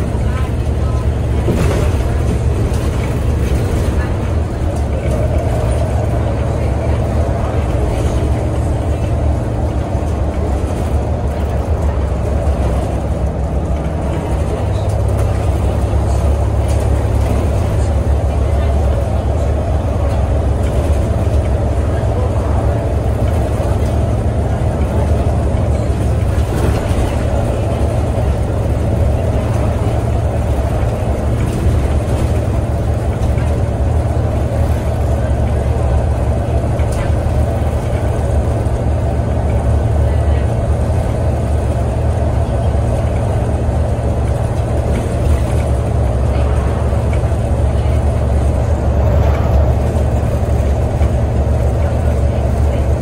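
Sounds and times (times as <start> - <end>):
bus engine drone: 0.0 - 53.0
road noise: 0.0 - 53.0.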